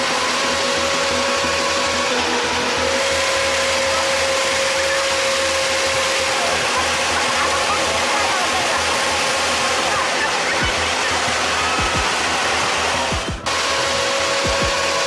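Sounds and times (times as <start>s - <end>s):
high steady machine whine: 0.0s - 15.0s.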